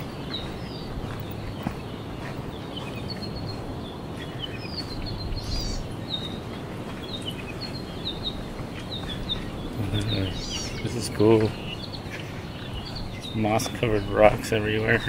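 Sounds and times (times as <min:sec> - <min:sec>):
small birds chirping: 0:00.0 - 0:15.0
steady low background rush: 0:00.0 - 0:15.0.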